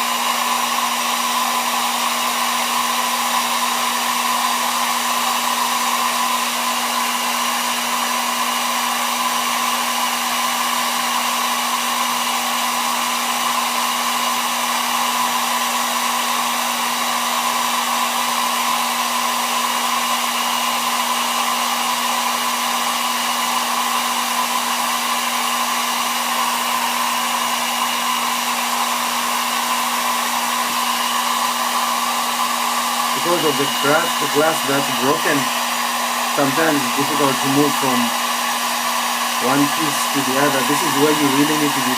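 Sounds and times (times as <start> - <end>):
hot-air blower whooshing: 0.0 - 41.9.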